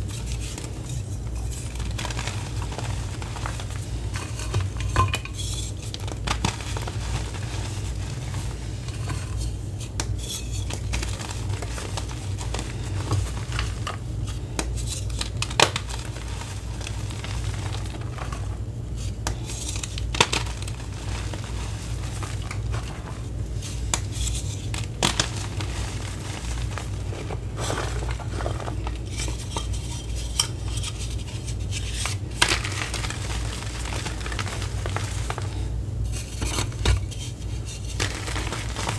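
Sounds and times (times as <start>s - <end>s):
chalk crunching and crumbling: 0.0s - 38.9s.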